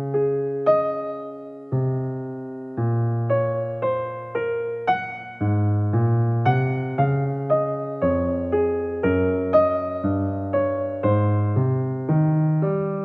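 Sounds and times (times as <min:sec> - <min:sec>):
piano-like keyboard melody: 0:00.0 - 0:13.0.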